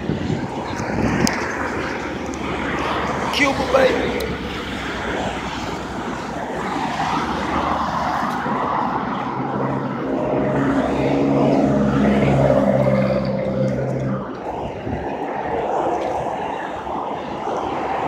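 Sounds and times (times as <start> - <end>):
street traffic: 0.0 - 18.0
vehicle engine humming: 0.0 - 18.0.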